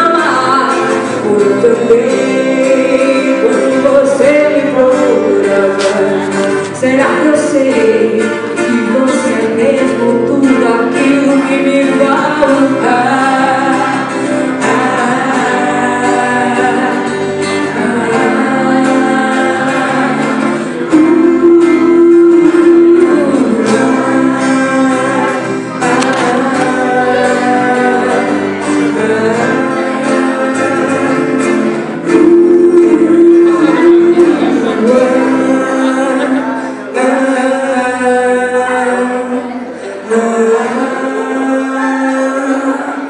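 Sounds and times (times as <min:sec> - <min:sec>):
live band with guitars: 0:00.0 - 0:43.0
woman singing into a microphone: 0:00.0 - 0:43.0.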